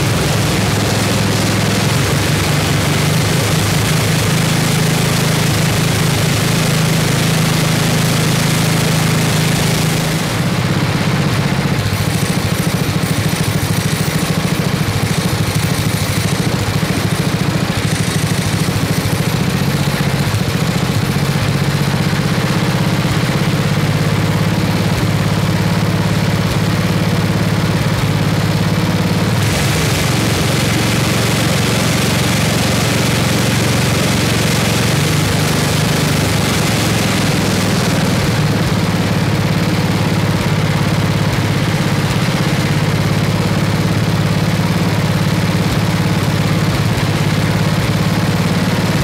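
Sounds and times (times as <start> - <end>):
snowblower engine running: 0.0 - 49.0.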